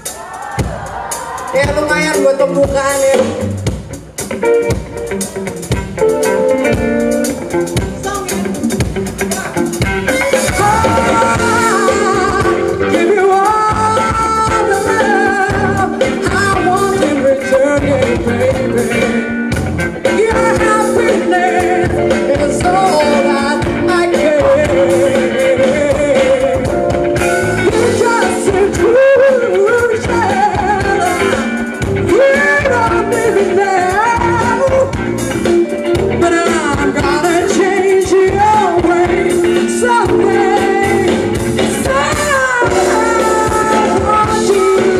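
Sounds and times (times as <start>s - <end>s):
woman singing lead: 0.0s - 3.6s, 5.6s - 44.9s
live rock band: 0.0s - 44.9s.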